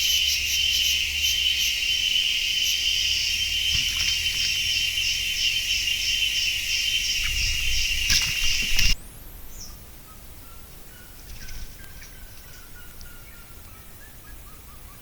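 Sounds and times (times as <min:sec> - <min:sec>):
crickets chirping: 0:00.0 - 0:15.0
faint bird calls: 0:00.0 - 0:15.0.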